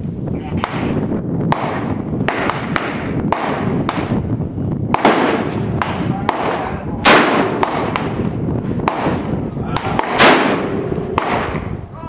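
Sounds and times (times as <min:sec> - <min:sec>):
rifle shots echoing: 0:00.6 - 0:04.2, 0:04.9 - 0:11.7.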